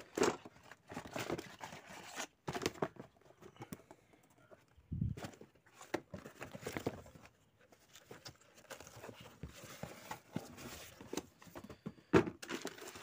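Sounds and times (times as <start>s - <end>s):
cardboard packaging rustling: 0.0s - 3.7s, 5.0s - 13.0s.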